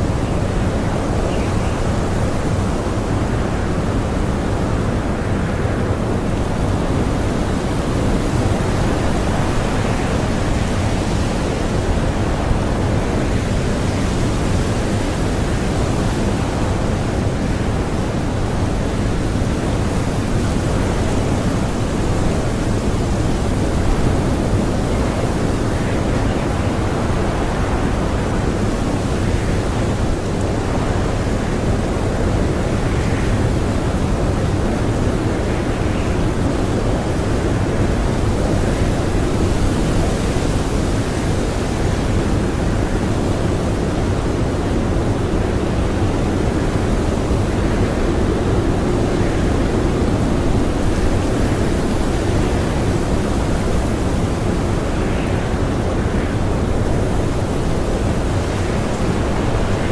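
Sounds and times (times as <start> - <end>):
blizzard wind howling: 0.0 - 59.9.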